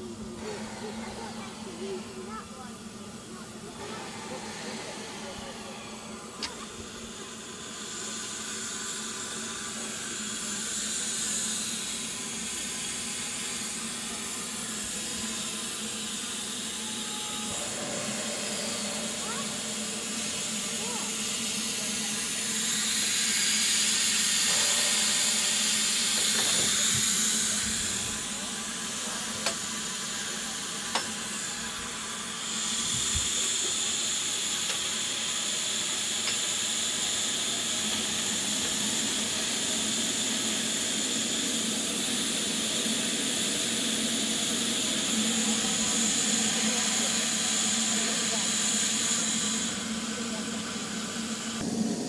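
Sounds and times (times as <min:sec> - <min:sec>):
steam hissing from pipework: 0:00.0 - 0:52.0.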